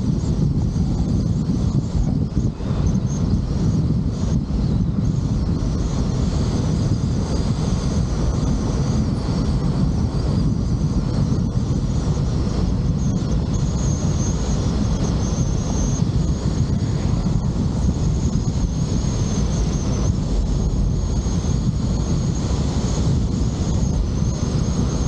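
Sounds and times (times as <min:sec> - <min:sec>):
faint high whine: 0:00.0 - 0:25.0
wind and road noise: 0:00.0 - 0:25.0.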